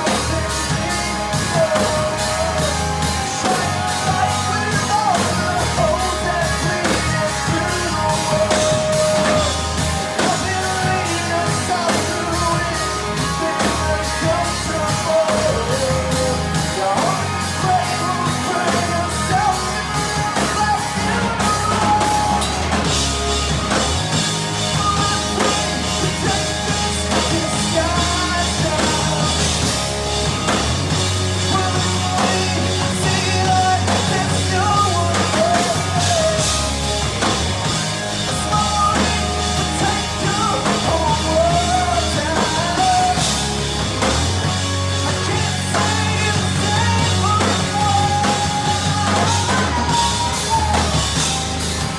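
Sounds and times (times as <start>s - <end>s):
person singing: 0.0s - 51.9s
rock band playing: 0.0s - 51.9s.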